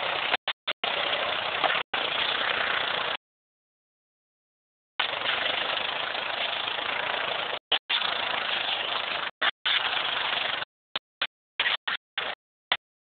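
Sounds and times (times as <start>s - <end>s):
quad engine running: 0.0s - 3.2s, 5.0s - 12.8s.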